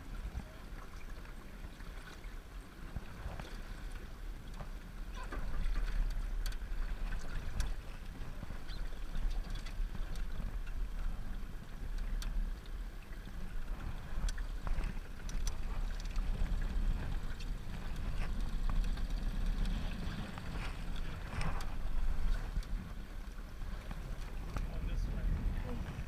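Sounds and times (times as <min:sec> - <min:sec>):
outboard motor rumble: 0:00.0 - 0:26.0
water washing along hull: 0:00.0 - 0:26.0.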